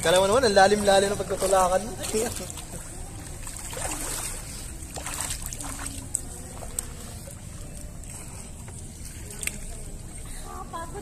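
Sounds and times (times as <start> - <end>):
pool water sloshing: 0.0 - 11.0.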